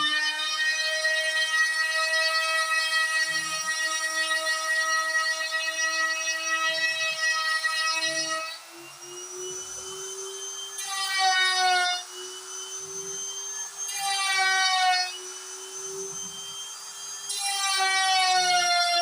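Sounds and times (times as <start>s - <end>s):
router motor whine: 0.0s - 19.0s
stepper motor whine: 3.1s - 19.0s.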